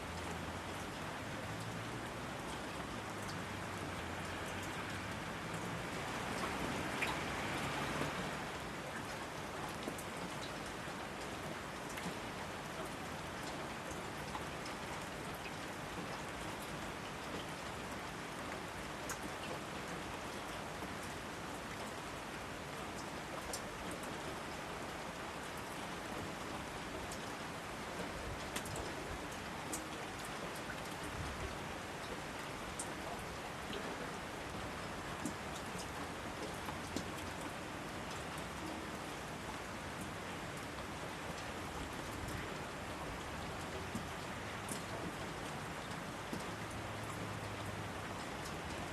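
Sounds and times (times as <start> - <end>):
steady rain hiss: 0.0 - 48.9
sharp water drips: 0.1 - 24.6, 26.4 - 42.4, 43.0 - 48.9.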